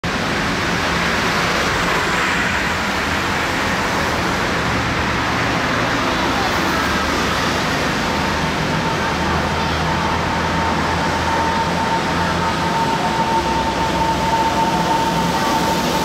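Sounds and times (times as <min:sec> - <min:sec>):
vehicle rumble and hiss: 0:00.0 - 0:16.0.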